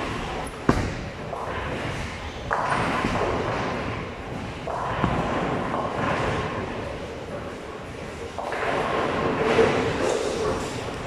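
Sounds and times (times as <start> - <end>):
bowling balls rolling: 0.0 - 11.0.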